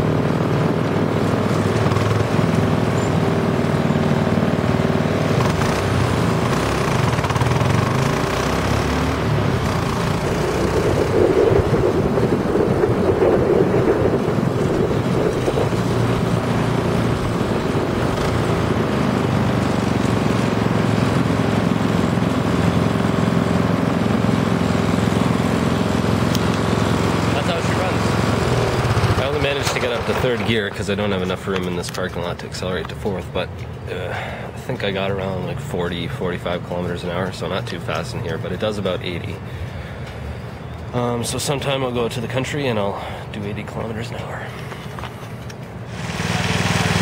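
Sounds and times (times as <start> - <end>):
go-kart engine under load: 0.0 - 39.2, 44.7 - 47.0.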